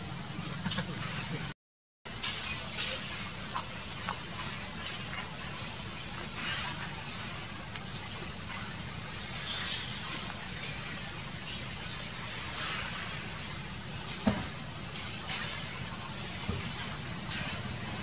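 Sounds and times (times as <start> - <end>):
high-pitched insect drone: 2.2 - 18.0.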